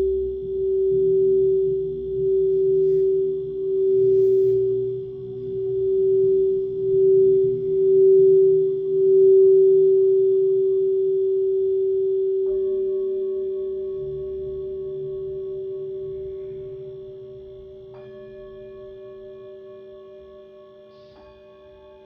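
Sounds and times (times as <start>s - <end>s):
singing bowl sustained tone: 0.0s - 22.0s.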